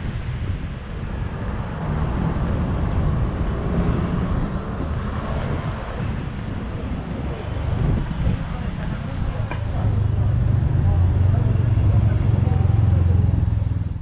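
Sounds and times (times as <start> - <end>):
city road traffic: 0.0 - 14.0
wind buffeting microphone: 0.0 - 14.0.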